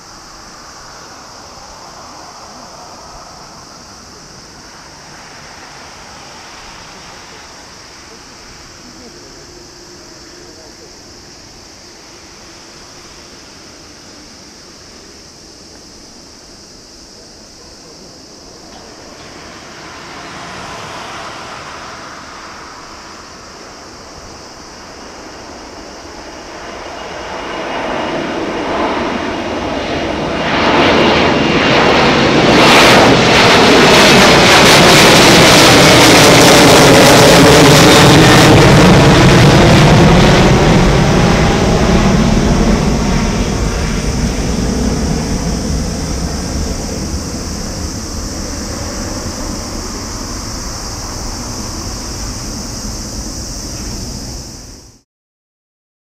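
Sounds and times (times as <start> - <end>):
jet engines roaring overhead: 0.0 - 55.0.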